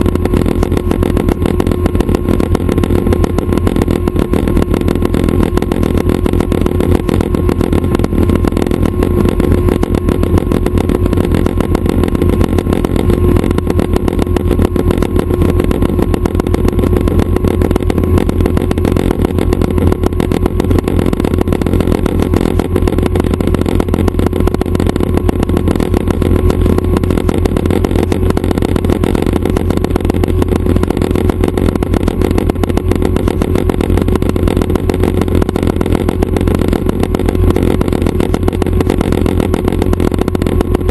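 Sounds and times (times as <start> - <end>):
helicopter engine and rotors: 0.0 - 40.9.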